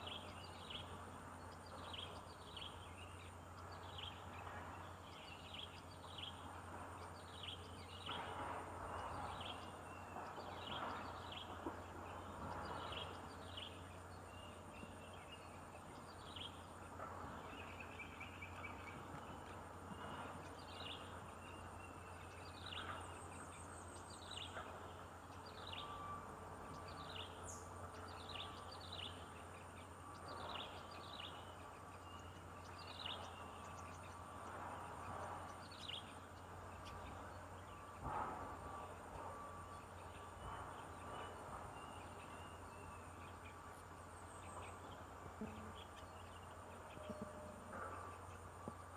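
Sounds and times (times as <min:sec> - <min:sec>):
birds chirping: 0:00.0 - 0:48.9
steady low hum: 0:00.0 - 0:48.9.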